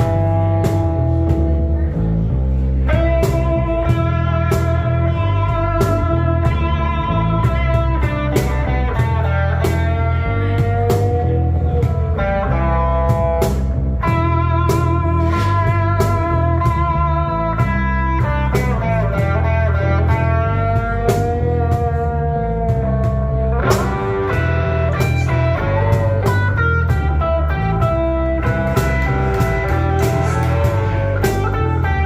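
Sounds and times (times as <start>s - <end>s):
blues band playing: 0.0s - 32.0s
electric guitar lead lines: 0.0s - 32.0s.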